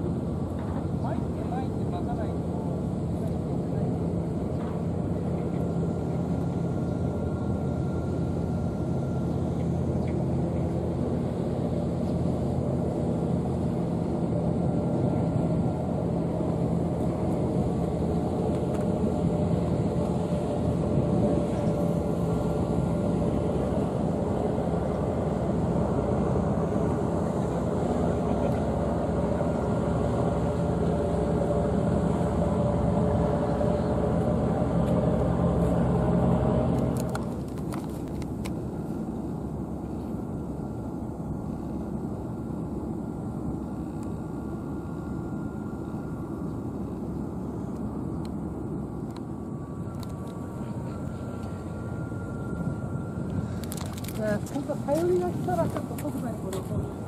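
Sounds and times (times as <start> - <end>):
steady low engine drone: 0.0 - 57.0.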